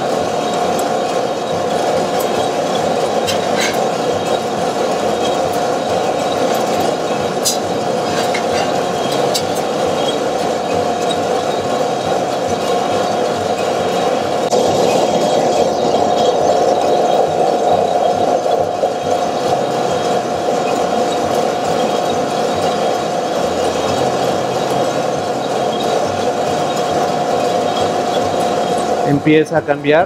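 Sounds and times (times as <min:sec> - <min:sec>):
coffee roaster running: 0:00.0 - 0:30.0.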